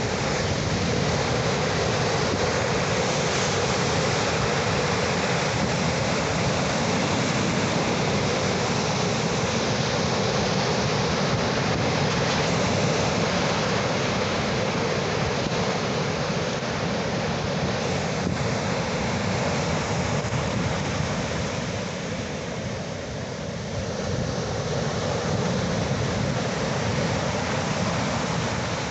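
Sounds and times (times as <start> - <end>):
ocean waves washing: 0.0 - 28.9.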